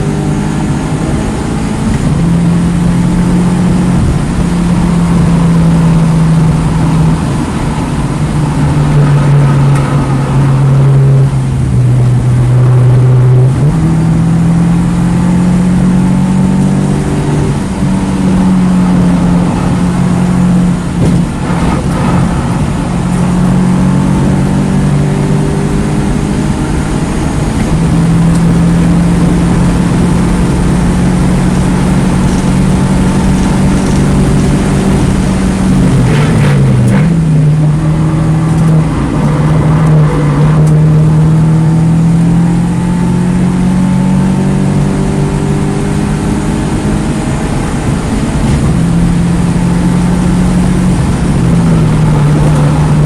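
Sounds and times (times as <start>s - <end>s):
car engine running hard: 0.0s - 53.0s.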